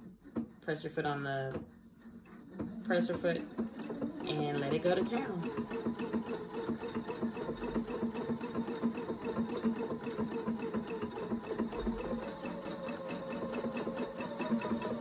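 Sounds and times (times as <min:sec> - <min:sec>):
sewing machine running: 0:02.5 - 0:15.0.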